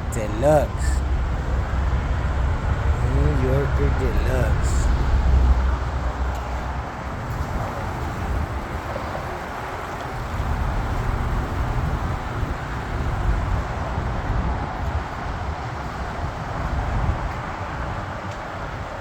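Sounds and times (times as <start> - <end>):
passing traffic rumble: 0.0 - 19.0.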